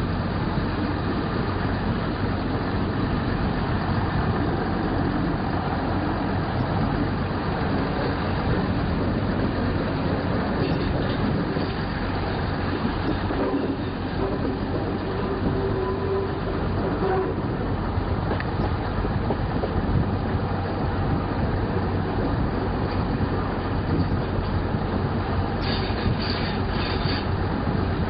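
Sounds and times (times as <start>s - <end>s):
constant low hum: 0.0s - 28.0s
train wheels on rails: 0.0s - 28.0s.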